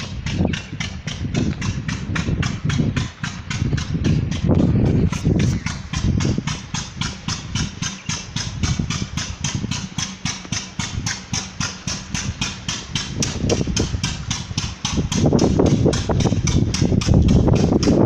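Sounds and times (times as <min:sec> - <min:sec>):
low rumble: 0:00.0 - 0:18.0
machine ticking: 0:00.0 - 0:18.0.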